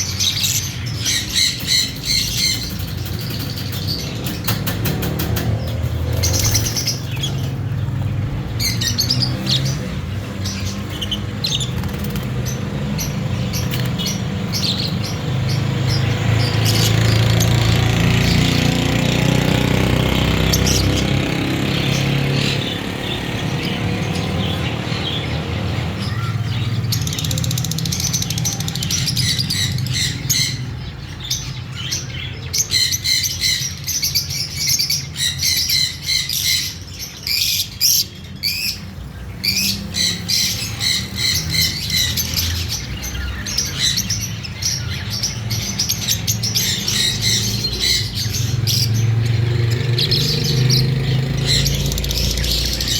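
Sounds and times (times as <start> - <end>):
lovebirds chirping: 0.0 - 52.9.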